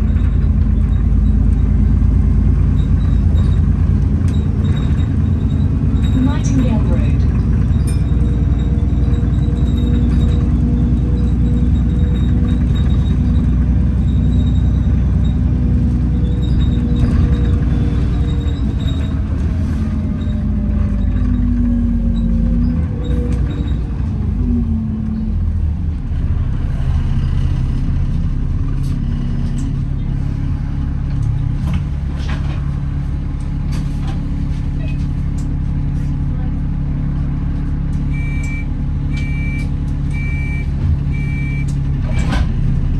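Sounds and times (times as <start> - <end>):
bus engine rumble: 0.0 - 42.9.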